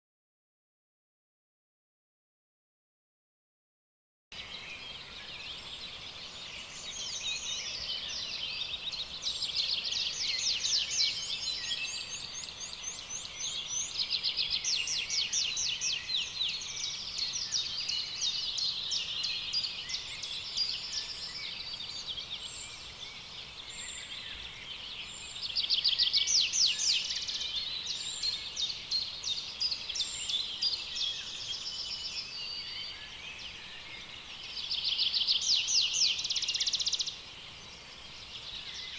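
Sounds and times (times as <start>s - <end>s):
chorus of birds trilling and chirping: 4.4s - 38.9s.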